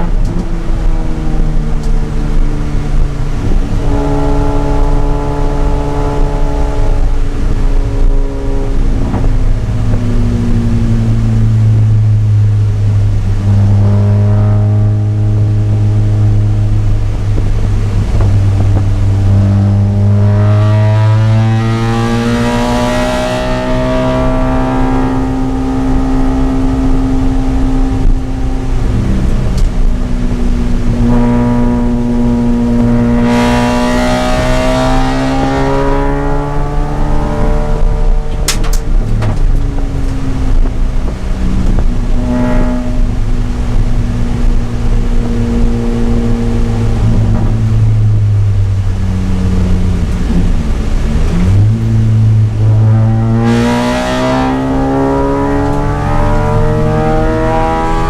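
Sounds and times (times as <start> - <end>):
rotary engine revving: 0.0 - 58.0.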